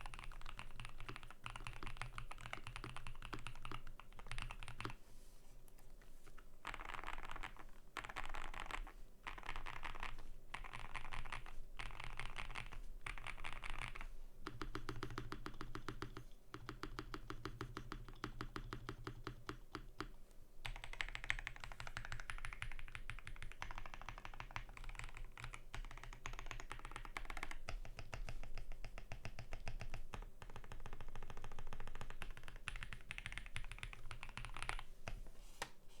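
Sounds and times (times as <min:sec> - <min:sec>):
mechanical keyboard typing: 0:00.0 - 0:05.0, 0:06.6 - 0:34.9
rapid deeper key presses: 0:00.0 - 0:05.0, 0:06.6 - 0:34.8.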